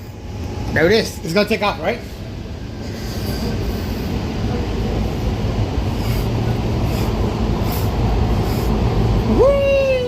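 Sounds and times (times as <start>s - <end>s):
subway train rumble and rattle: 0.0s - 10.0s.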